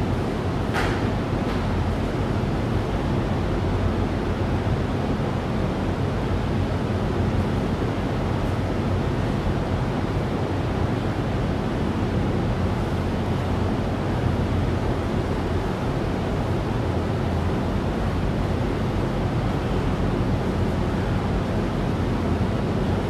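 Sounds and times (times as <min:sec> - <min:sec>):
large fan running: 0:00.0 - 0:23.0.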